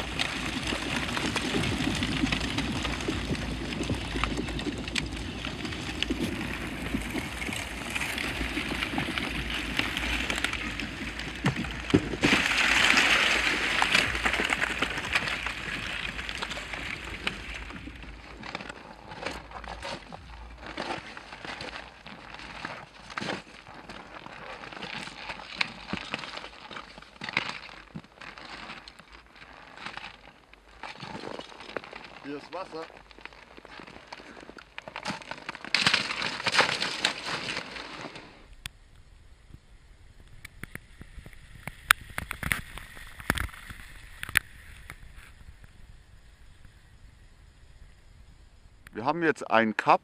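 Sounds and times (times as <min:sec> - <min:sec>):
bicycle tyres on broken ice: 0:00.0 - 0:50.0.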